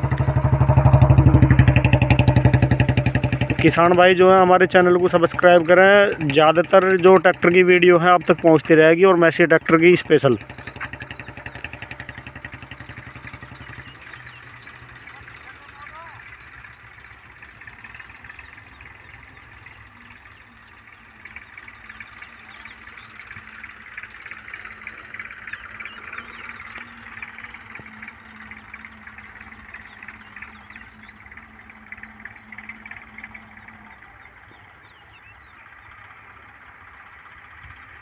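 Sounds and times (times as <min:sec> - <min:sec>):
distant tractor engine idling: 0:00.0 - 0:38.0
small birds chirping: 0:00.0 - 0:38.0.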